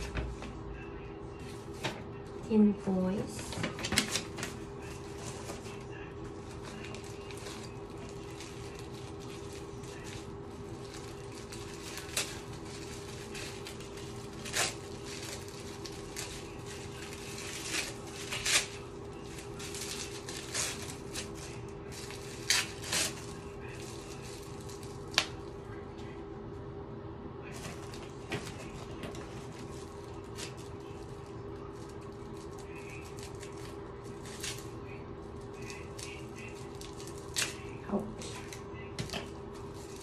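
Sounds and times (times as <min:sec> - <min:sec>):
steady hum: 0:00.0 - 0:40.0
plastic packaging crinkling: 0:03.1 - 0:26.2, 0:27.5 - 0:40.0.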